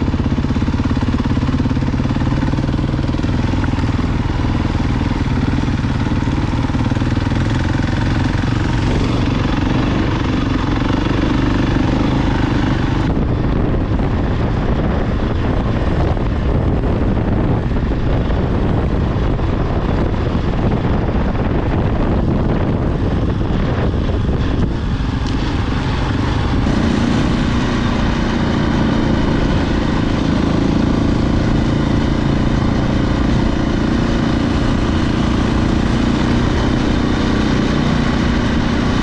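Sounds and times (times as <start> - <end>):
motorcycle engine running: 0.0 - 39.0
wind rush on microphone: 0.0 - 39.0.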